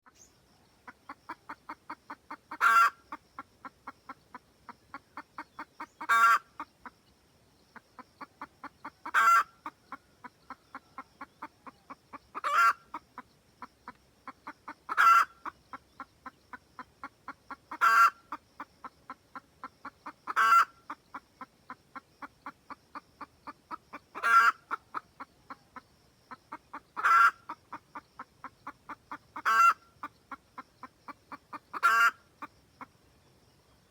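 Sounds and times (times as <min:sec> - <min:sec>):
hen cackling: 0:00.8 - 0:07.0, 0:07.7 - 0:32.9.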